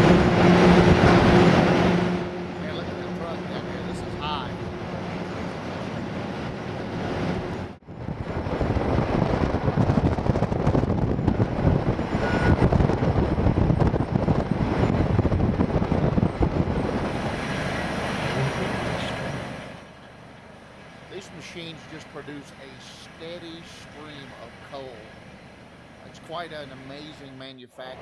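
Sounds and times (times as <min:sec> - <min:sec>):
excavator machinery rumble and clatter: 0:00.0 - 0:27.2.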